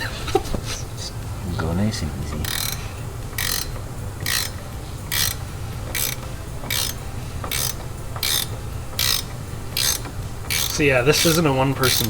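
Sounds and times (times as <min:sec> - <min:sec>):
steady low hum: 0:00.0 - 0:12.0
ratchet wrench clicking: 0:02.2 - 0:12.0.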